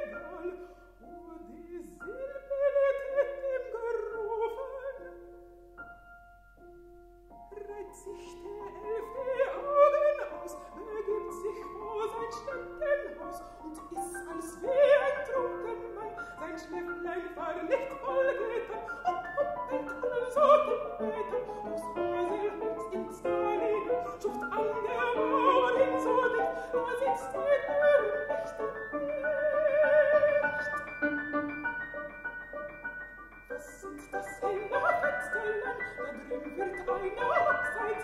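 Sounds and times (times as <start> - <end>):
grand piano: 0.0 - 38.0
soprano singing: 0.0 - 38.0.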